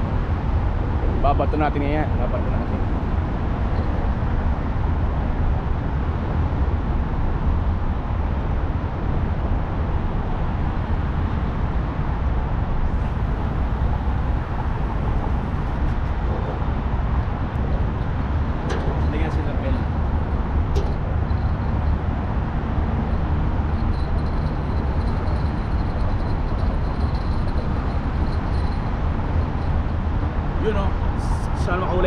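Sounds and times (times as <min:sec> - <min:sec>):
low rumble and hiss of traffic: 0:00.0 - 0:32.0.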